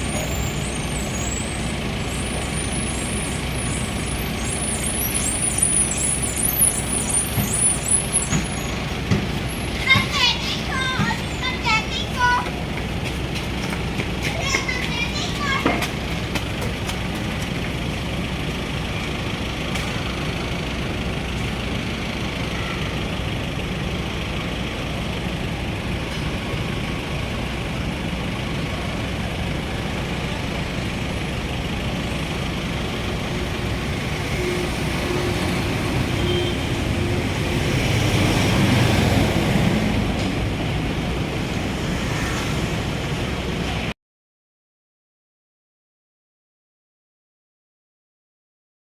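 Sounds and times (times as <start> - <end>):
city road traffic: 0.0 - 44.0
vehicle rumbling past: 0.0 - 44.0.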